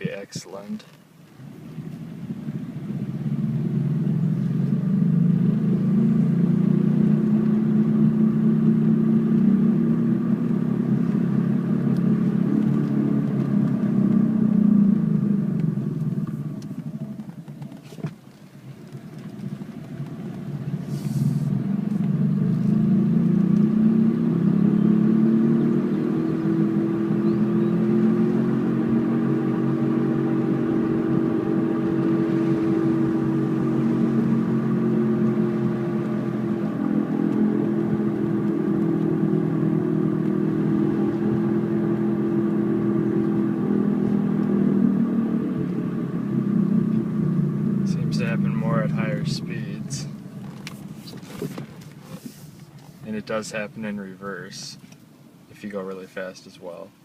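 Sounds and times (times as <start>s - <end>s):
car grinding while driving: 0.0s - 56.0s.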